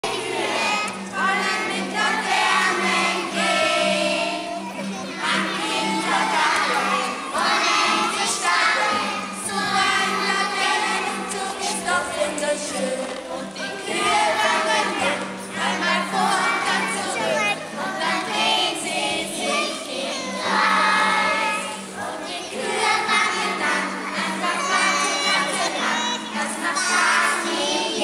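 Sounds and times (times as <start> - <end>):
children singing together: 0.0 - 28.0.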